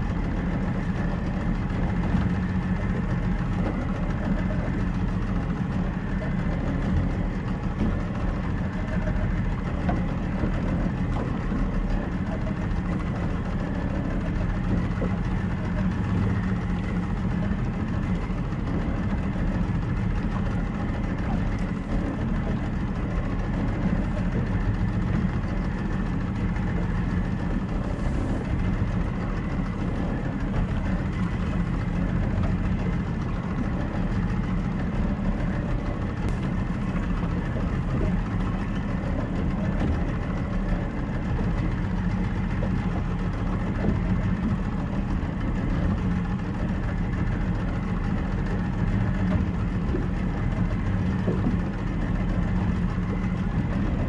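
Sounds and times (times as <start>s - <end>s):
motorboat engine droning: 0.0s - 54.0s.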